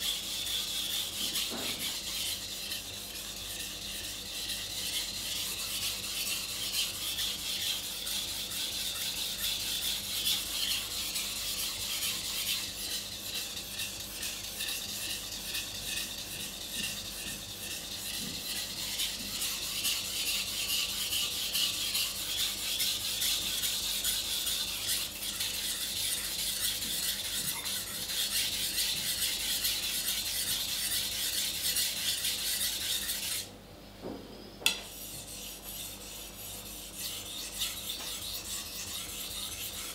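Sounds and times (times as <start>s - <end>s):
knife scraping on sharpening stone: 0.1s - 33.5s, 34.7s - 39.9s.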